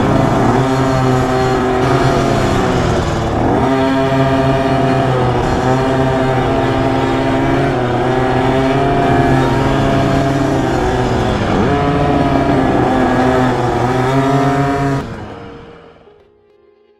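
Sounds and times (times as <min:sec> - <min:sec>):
dirt bike engine running hard: 0:00.0 - 0:16.1.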